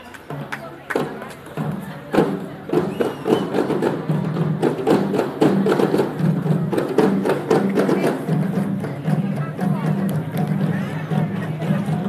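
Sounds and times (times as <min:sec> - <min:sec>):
drums in fast rhythm: 0:00.0 - 0:12.0.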